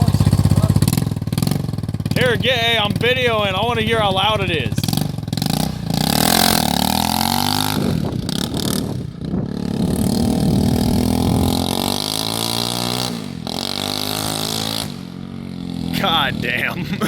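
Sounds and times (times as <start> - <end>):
loud atv engine revving: 0.0 - 17.0.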